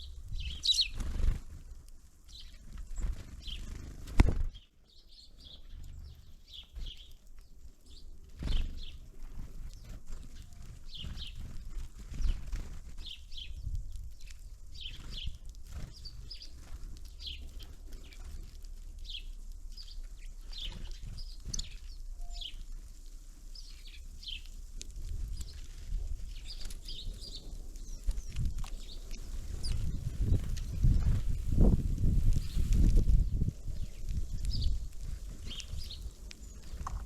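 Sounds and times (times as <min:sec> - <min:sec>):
small birds calling: 0:00.0 - 0:01.6, 0:02.2 - 0:37.0.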